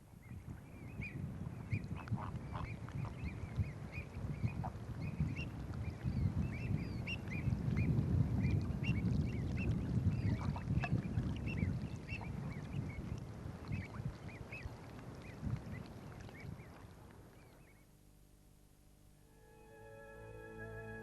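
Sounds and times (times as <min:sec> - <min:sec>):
waterbirds calling: 0:00.2 - 0:17.9.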